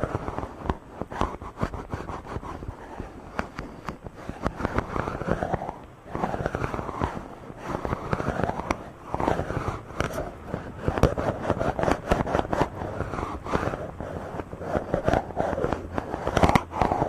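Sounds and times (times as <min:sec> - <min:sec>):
microphone being rubbed: 0:00.0 - 0:17.0
sharp crackling ticks: 0:00.0 - 0:17.0.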